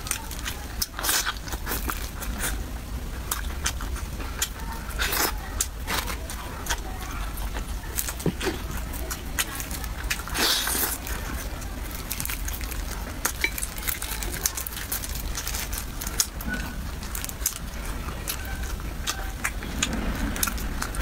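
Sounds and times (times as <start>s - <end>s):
low steady hum: 0.0s - 21.0s
chewing and biting: 3.2s - 21.0s.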